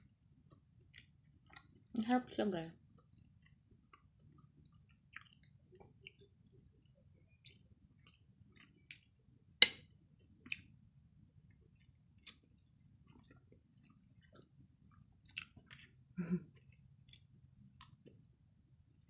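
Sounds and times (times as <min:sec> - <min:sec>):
person chewing with wet smacks: 0:00.4 - 0:01.9, 0:02.8 - 0:09.2, 0:10.1 - 0:18.3.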